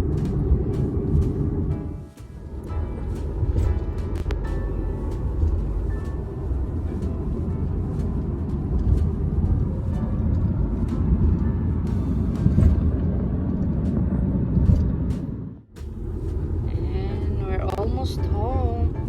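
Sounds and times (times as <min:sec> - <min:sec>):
road and engine noise in car: 0:00.0 - 0:19.0.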